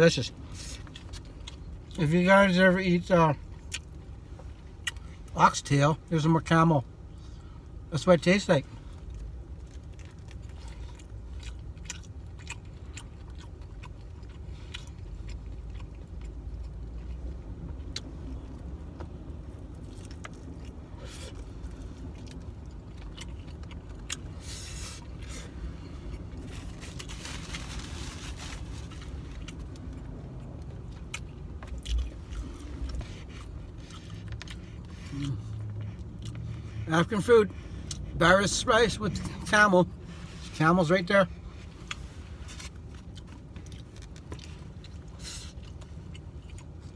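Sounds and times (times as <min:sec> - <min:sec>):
person chewing food: 0:00.4 - 0:02.0, 0:03.4 - 0:05.3, 0:08.8 - 0:36.8, 0:37.4 - 0:40.5, 0:41.4 - 0:46.9.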